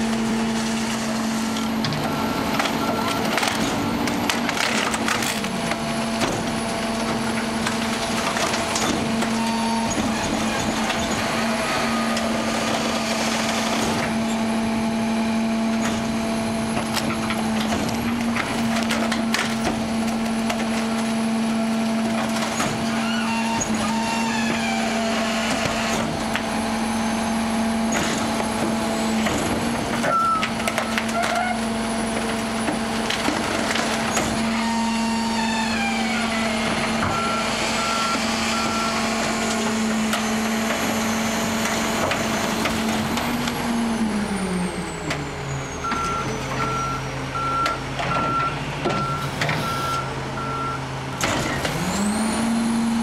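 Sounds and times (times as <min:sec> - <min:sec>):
garbage truck engine: 0:00.0 - 0:53.0.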